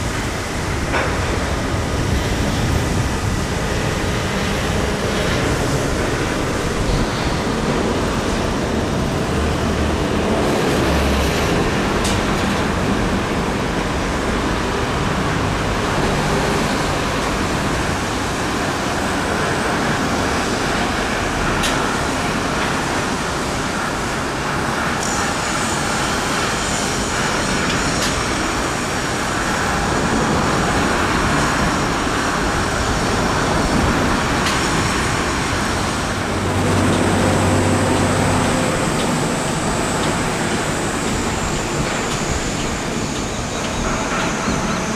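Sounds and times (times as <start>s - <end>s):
traffic-like roar: 0.0s - 44.9s.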